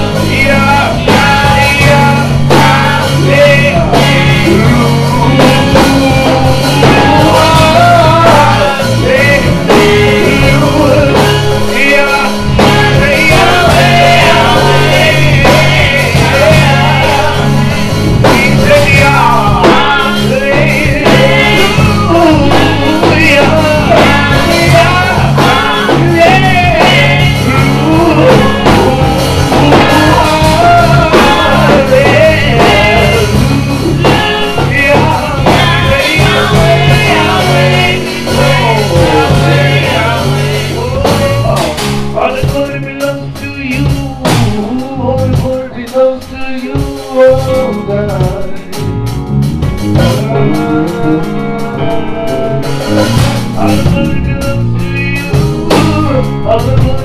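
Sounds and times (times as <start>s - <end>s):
band accompaniment: 0.0s - 57.0s
choir singing a gospel song: 0.0s - 57.0s.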